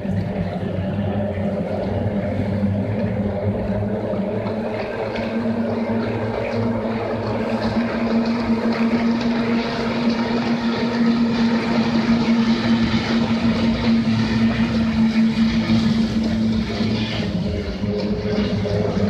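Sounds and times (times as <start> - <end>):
outboard engines droning: 0.0 - 19.0.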